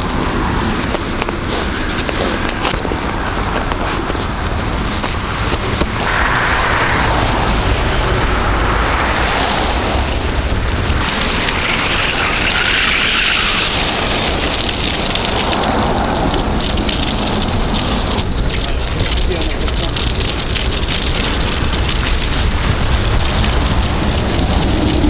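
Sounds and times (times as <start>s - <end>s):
bike tyres rolling over snow: 0.0s - 25.0s
wind rumbling on microphone: 0.0s - 25.0s.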